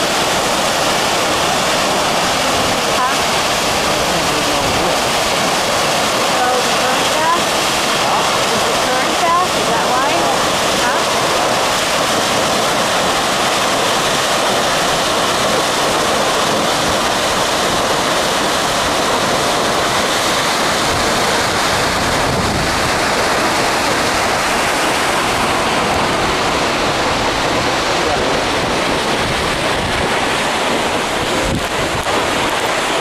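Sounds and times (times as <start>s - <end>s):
waterfall rushing onto rocks: 0.0s - 33.0s.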